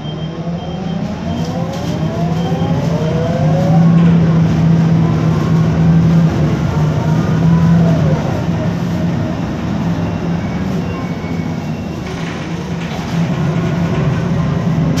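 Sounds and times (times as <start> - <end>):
bus engine droning under load: 0.0 - 15.0.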